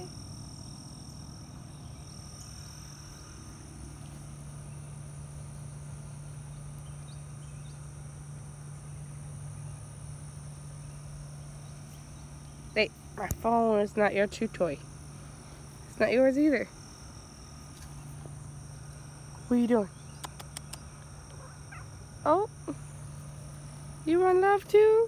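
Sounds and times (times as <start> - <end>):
insects droning: 0.0 - 25.0
low steady hum: 0.0 - 25.0.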